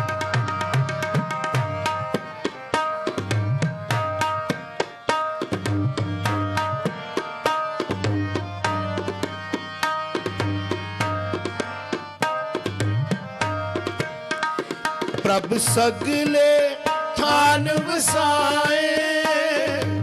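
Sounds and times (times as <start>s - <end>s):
tabla playing fast rhythm: 0.0s - 20.0s.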